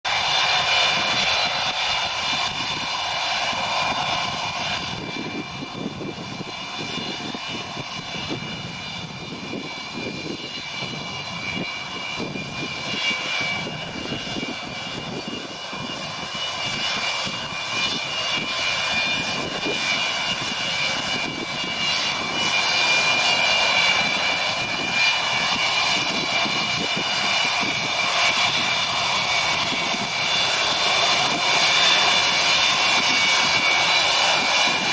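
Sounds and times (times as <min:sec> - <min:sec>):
jet aircraft engines whining: 0:00.1 - 0:34.9.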